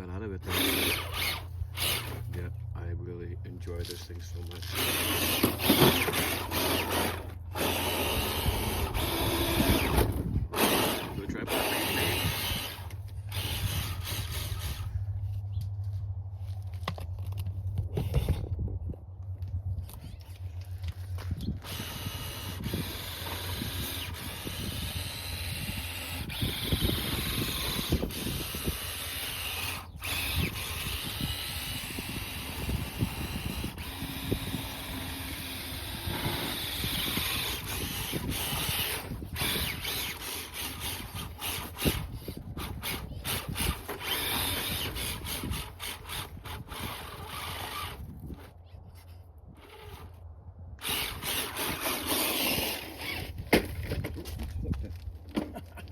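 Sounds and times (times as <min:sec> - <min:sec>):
electric motor and gears whining: 0:00.0 - 0:48.6, 0:49.5 - 0:55.5.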